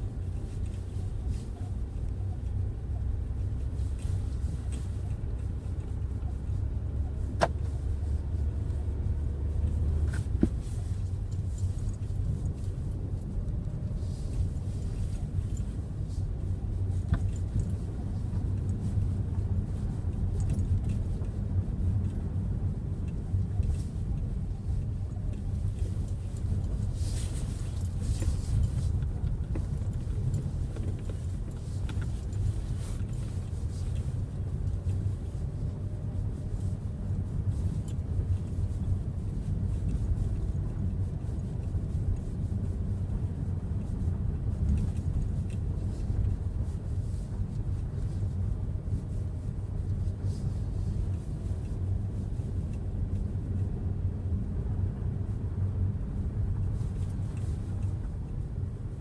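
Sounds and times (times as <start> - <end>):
road and drivetrain rumble: 0.0 - 59.0.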